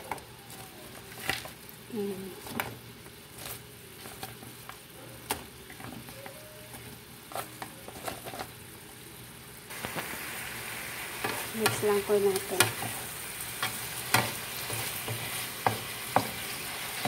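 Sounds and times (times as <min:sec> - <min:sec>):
sauce bubbling and sizzling in a pan: 0:00.0 - 0:17.0.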